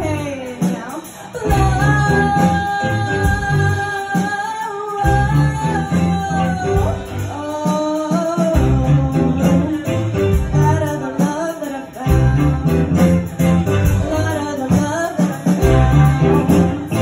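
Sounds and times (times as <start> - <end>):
bass guitar: 0.0 - 17.0
drum kit with cymbals: 0.0 - 17.0
electric guitars: 0.0 - 17.0
keyboard: 0.0 - 17.0
person singing lead vocal: 0.0 - 17.0.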